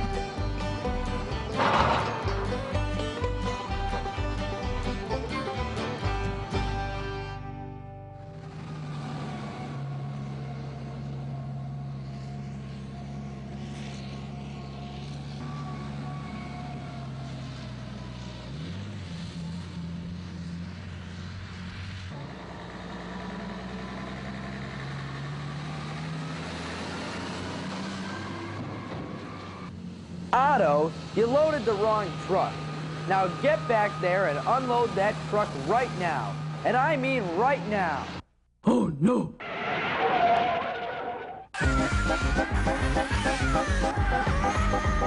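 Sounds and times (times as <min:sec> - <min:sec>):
heavy machinery diesel engines: 0:00.0 - 0:38.2, 0:41.5 - 0:45.0.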